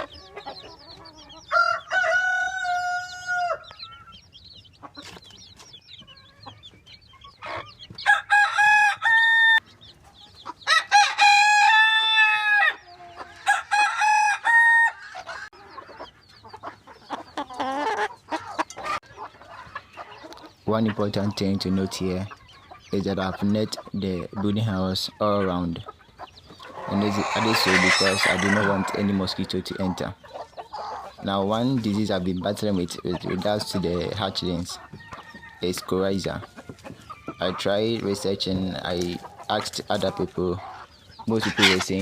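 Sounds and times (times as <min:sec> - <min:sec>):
roosters crowing: 0:00.0 - 0:04.4, 0:07.3 - 0:22.3, 0:24.8 - 0:42.0
chickens clucking softly: 0:00.0 - 0:08.3, 0:09.6 - 0:10.7, 0:12.7 - 0:13.8, 0:15.0 - 0:42.0.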